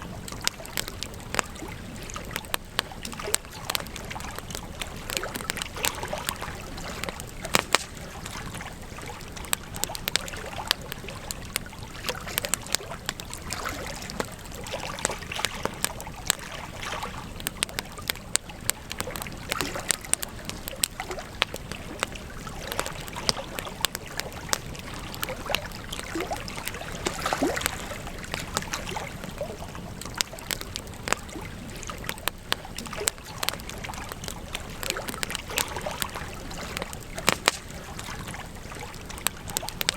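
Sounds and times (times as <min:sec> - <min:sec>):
campfire crackling: 0:00.0 - 0:39.9
steady low hiss: 0:00.0 - 0:39.9.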